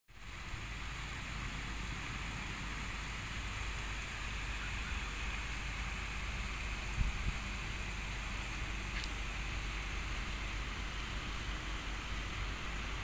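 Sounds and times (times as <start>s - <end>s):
even hiss: 0.2s - 13.0s.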